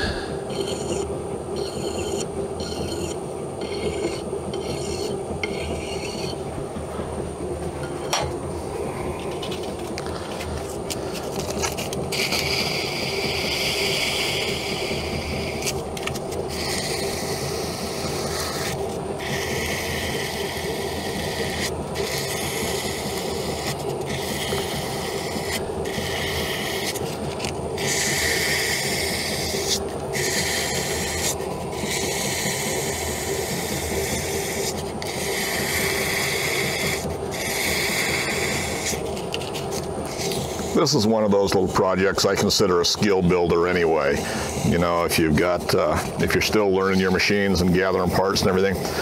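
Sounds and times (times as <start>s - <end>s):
metal lathe humming: 0.0s - 49.0s.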